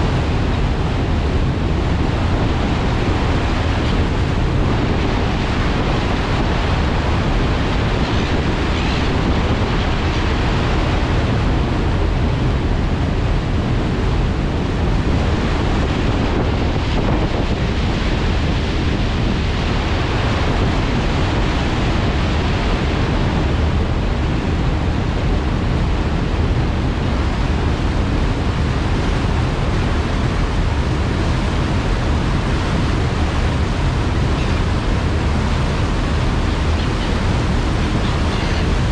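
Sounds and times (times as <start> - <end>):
propeller wake churning: 0.0 - 38.9
wind buffeting microphone: 0.0 - 38.9.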